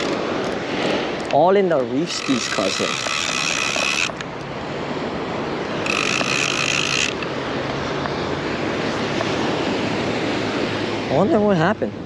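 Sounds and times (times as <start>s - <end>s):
surf washing ashore: 0.0s - 12.0s.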